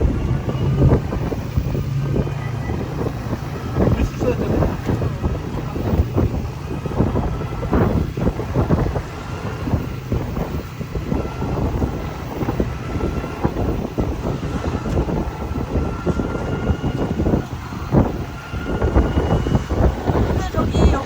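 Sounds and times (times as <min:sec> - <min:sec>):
electric cart rumble: 0:00.0 - 0:21.0
wind buffeting microphone: 0:00.0 - 0:21.0.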